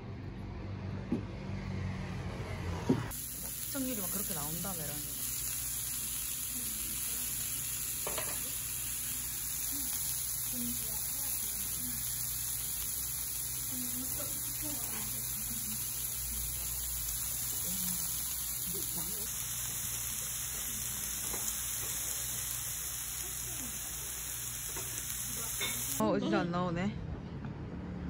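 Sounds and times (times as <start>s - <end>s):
meat sizzling on a griddle pan: 3.1s - 26.0s.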